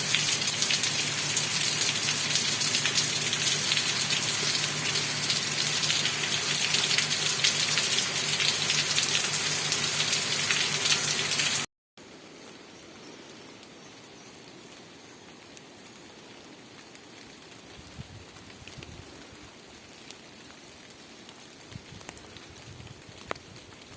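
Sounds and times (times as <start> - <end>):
rain pattering: 0.0 - 23.9.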